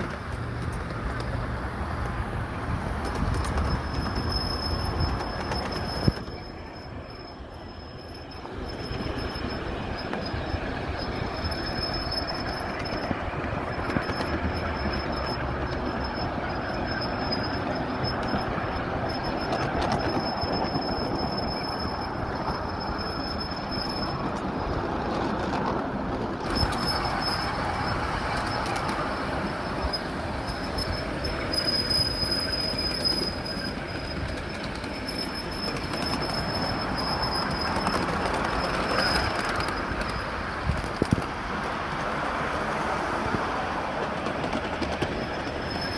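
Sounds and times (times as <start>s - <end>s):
wheels rumbling on rail: 0.0s - 45.9s
high-pitched wheel squeal: 3.1s - 25.6s, 26.4s - 41.2s, 42.4s - 45.9s.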